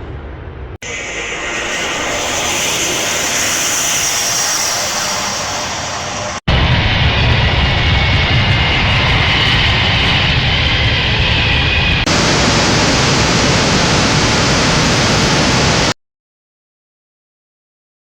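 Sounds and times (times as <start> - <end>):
jet airliner engine rush: 0.0 - 16.0.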